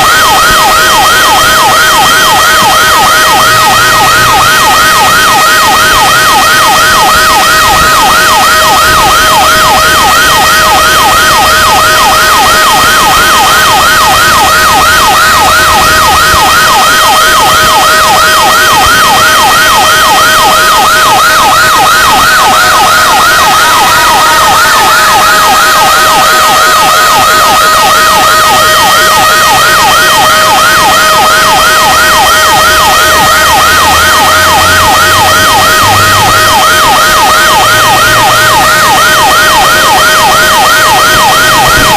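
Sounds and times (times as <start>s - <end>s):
electronic siren yelping: 0.0s - 41.9s
slow gliding siren: 0.0s - 41.9s
steady siren tone: 0.0s - 41.9s.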